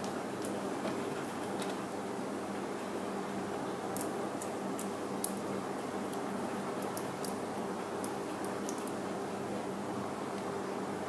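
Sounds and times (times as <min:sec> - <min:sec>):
steady room hiss: 0:00.0 - 0:11.0.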